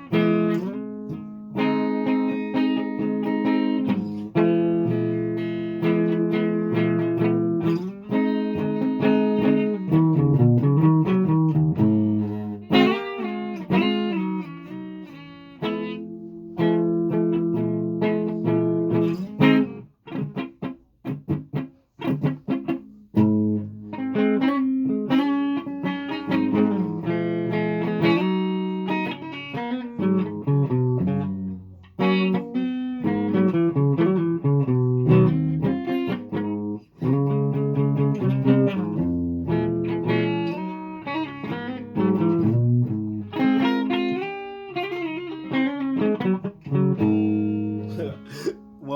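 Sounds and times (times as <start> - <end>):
guitar plucked notes and chords: 0.0 - 48.9.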